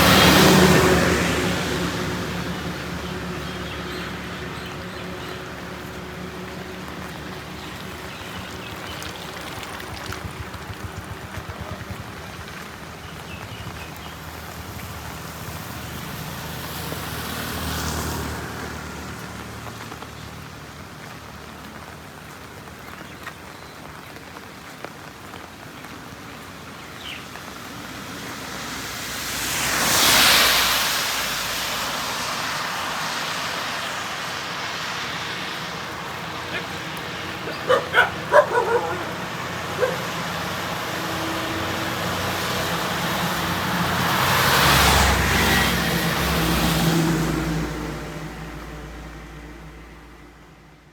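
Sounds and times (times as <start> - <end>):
heavy rain on road: 0.0 - 50.9
tyres hissing on wet road: 0.0 - 50.9.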